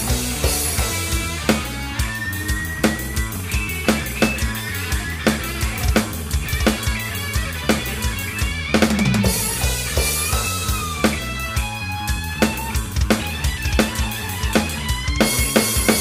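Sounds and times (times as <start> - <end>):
backing song with bass and guitar: 0.0 - 16.0
drum kit playing a beat: 0.0 - 16.0
tom fill: 0.0 - 16.0.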